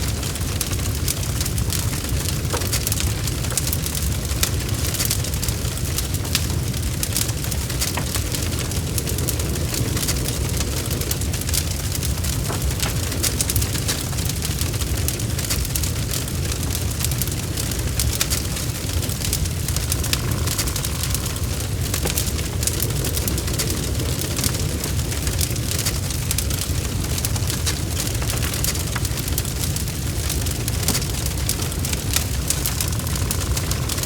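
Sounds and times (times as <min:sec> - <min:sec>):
low rumble of fire: 0:00.0 - 0:34.0
wood fire crackling: 0:00.0 - 0:34.0.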